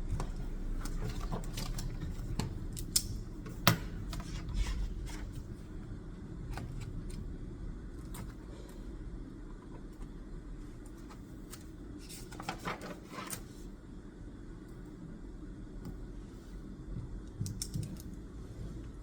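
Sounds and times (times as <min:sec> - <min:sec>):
low steady rumble: 0:00.0 - 0:12.8, 0:13.4 - 0:19.0.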